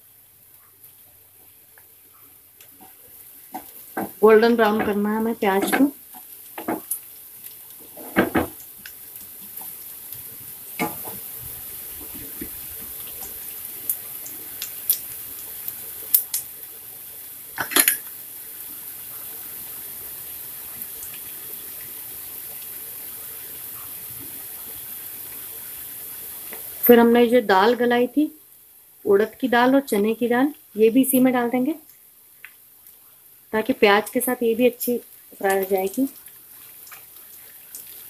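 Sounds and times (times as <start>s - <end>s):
onions sizzling in oil: 0.0s - 38.0s.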